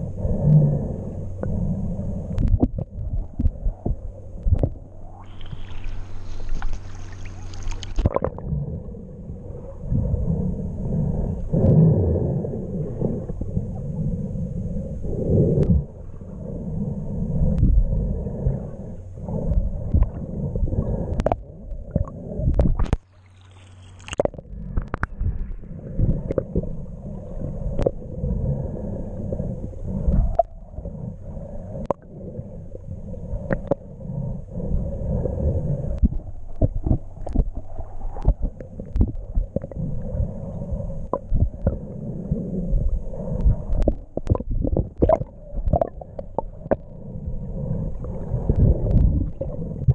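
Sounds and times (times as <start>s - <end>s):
underwater rumbling and gurgling: 0.0s - 49.9s.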